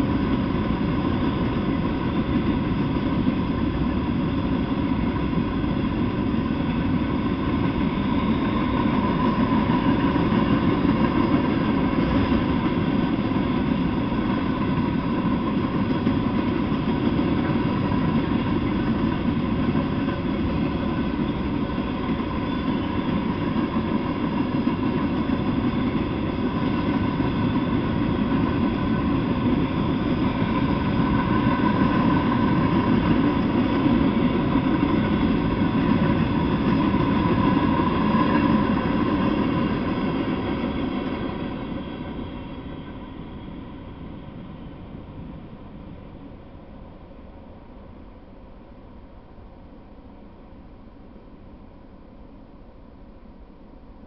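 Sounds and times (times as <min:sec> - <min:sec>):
freight train wheels rumbling: 0:00.0 - 0:48.2.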